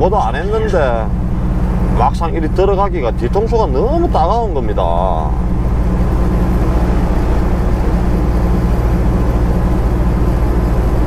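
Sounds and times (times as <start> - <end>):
diesel truck engine running: 0.0 - 11.0
tyre and road noise: 0.0 - 11.0.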